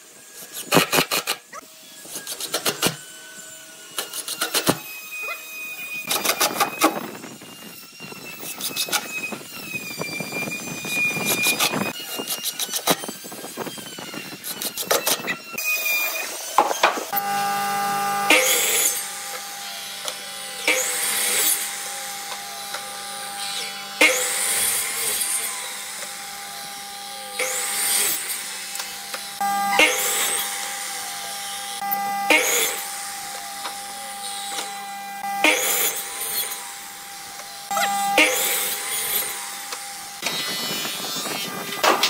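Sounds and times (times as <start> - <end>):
miter saw motor whine: 0.0 - 42.0
saw blade cutting wood: 0.0 - 42.0.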